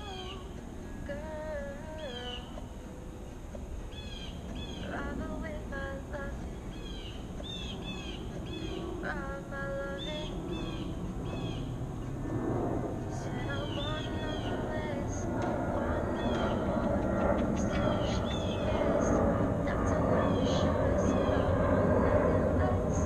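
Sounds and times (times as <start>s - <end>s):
birds chirping: 0.0s - 23.0s
low background noise: 0.0s - 23.0s.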